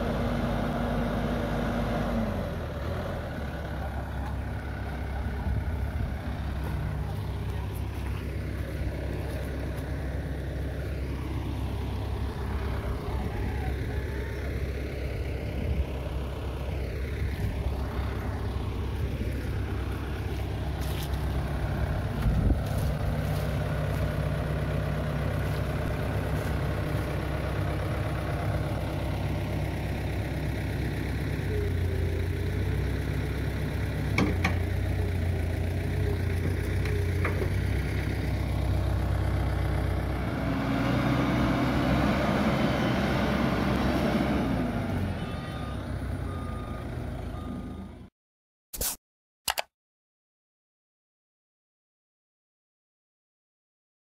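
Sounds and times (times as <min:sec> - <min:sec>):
diesel engine running: 0:00.0 - 0:48.1.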